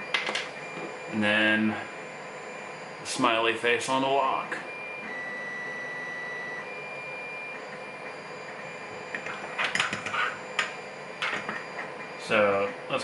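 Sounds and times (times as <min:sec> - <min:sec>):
background hum with high whine: 0:00.0 - 0:13.0.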